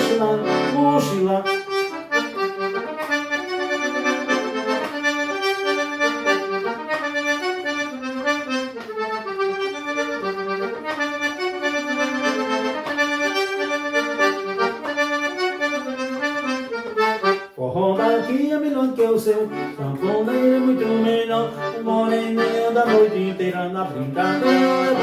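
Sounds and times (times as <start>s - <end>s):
accordion melody: 0.0s - 25.0s.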